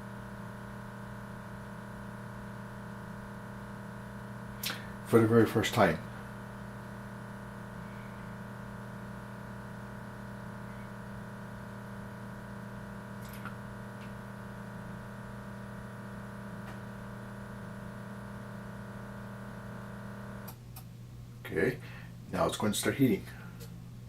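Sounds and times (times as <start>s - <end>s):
coffee maker pump humming: 0.0s - 20.6s.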